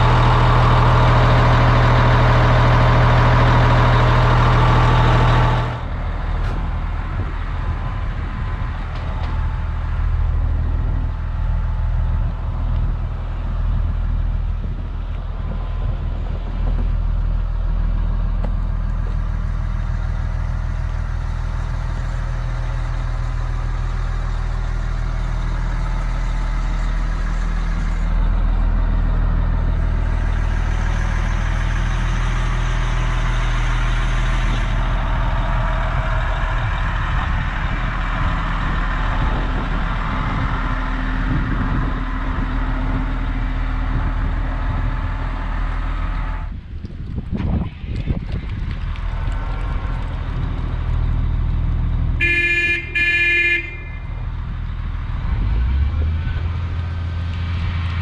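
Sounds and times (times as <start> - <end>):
excavator diesel engine idling: 0.0 - 58.0.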